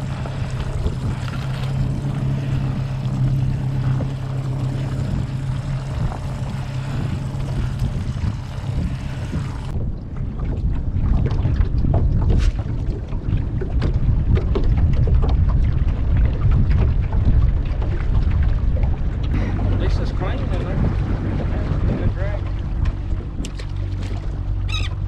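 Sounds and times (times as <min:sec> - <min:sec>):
outboard motor running: 0:00.0 - 0:25.0
wind and water rumble: 0:00.0 - 0:25.0.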